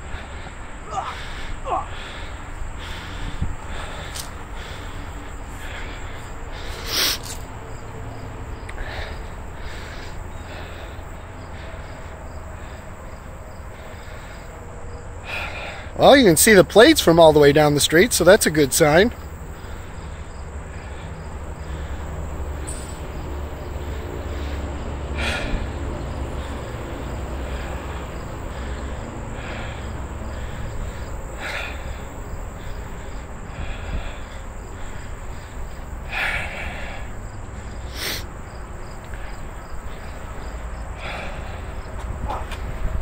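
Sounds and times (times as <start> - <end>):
insect chirring: 0.0 - 16.8, 17.9 - 42.0.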